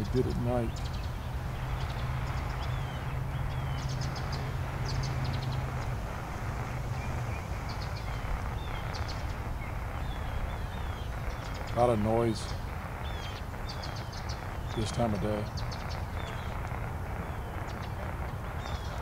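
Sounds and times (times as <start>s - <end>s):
bird chirps: 0.0s - 19.0s
low hum: 0.0s - 19.0s
radio static hiss: 0.0s - 19.0s.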